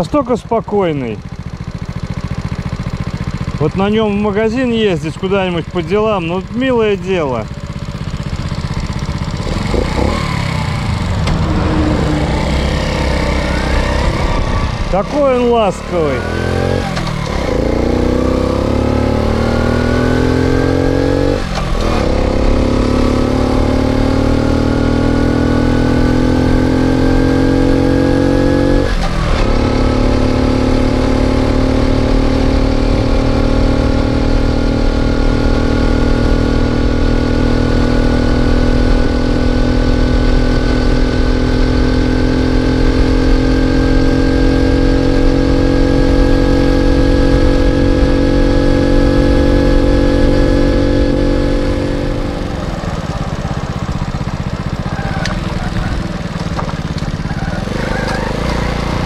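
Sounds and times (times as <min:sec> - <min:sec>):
moped engine accelerating: 0:00.0 - 0:59.0.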